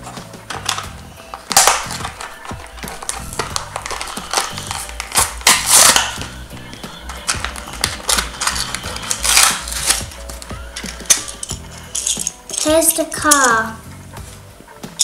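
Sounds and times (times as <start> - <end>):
plastic ripping: 0.0 - 12.7
plastic blister pack crinkling: 0.5 - 12.7.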